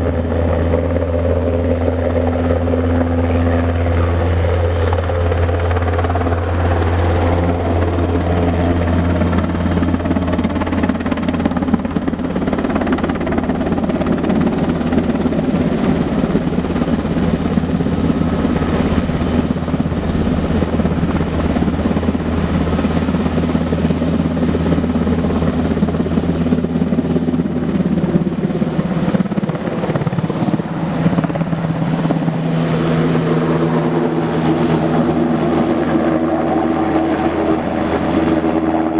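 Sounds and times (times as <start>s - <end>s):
helicopter rotor and engines: 0.0s - 38.9s.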